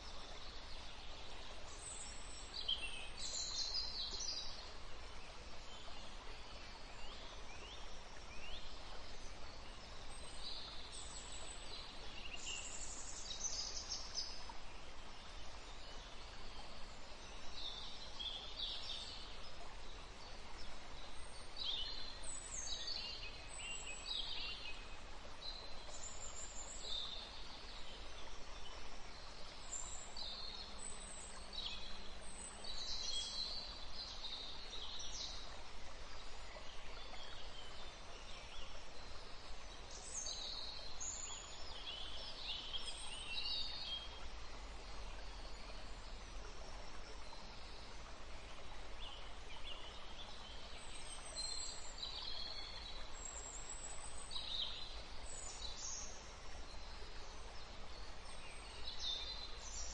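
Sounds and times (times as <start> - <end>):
faint hiss: 0.0 - 59.9.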